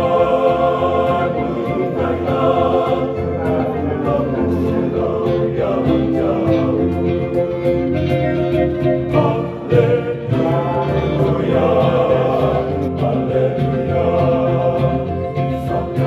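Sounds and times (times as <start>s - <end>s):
men's choir singing: 0.0s - 16.0s.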